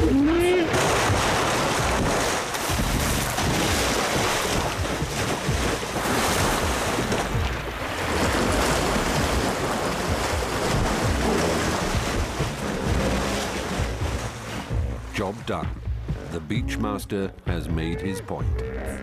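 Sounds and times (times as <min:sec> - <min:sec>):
water splashing and churning: 0:00.0 - 0:19.0.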